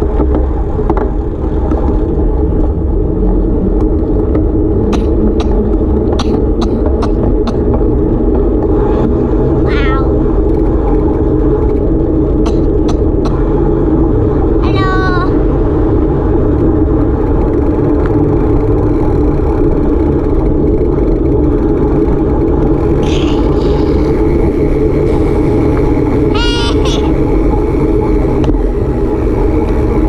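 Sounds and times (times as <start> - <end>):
loud steady rumbling: 0.0 - 30.0.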